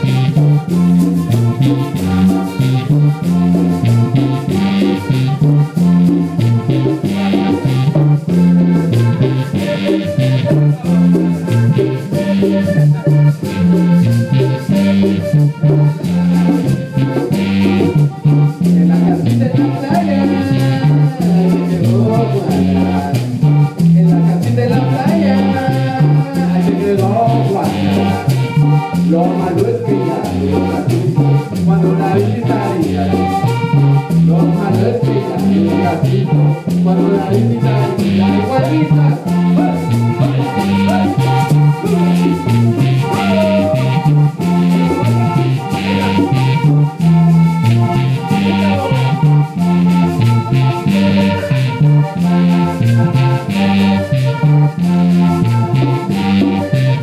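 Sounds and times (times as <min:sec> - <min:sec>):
bass line: 0:00.0 - 0:57.0
keyboard: 0:00.0 - 0:57.0
wavering melody line: 0:00.0 - 0:57.0.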